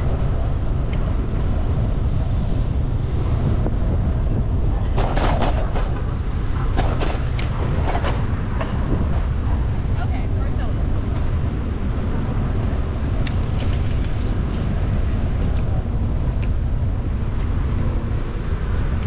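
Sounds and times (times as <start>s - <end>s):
road noise: 0.0s - 19.0s
wind rumbling on microphone: 0.0s - 19.0s.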